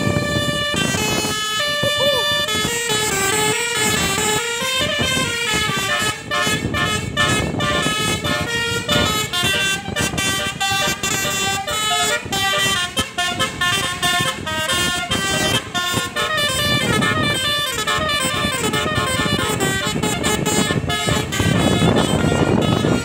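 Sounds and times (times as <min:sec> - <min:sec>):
multi-trumpet air horn tune: 0:00.0 - 0:23.0
vehicle rumble: 0:00.0 - 0:23.0.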